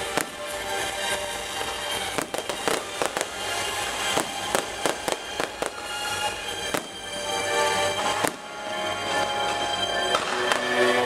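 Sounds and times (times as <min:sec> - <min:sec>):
fireworks popping and banging: 0:00.0 - 0:11.0
music playing: 0:00.0 - 0:11.0.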